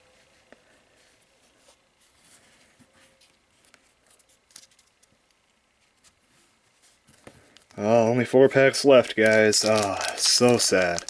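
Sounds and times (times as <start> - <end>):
trading cards rustling and ticking: 0.4 - 6.2, 6.8 - 11.0.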